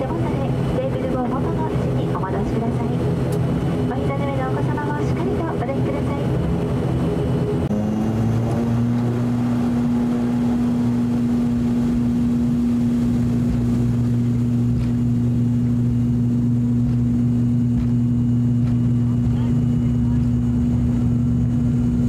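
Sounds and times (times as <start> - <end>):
propeller aircraft engines droning: 0.0 - 22.0.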